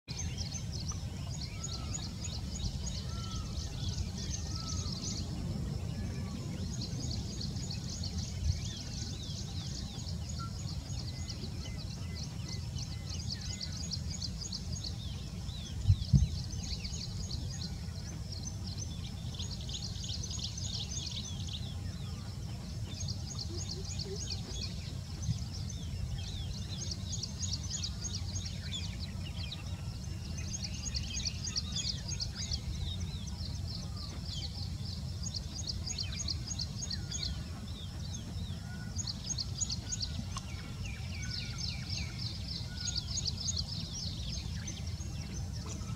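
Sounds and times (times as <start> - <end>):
steady low rumble: 0.1 - 45.9.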